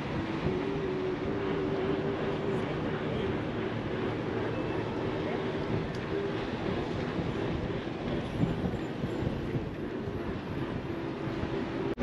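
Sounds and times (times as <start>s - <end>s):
moving bus rumble: 0.0s - 12.0s.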